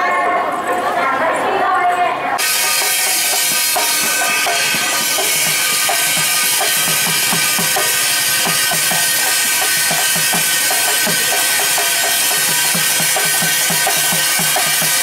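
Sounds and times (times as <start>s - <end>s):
small hand drum beaten: 2.4s - 15.0s.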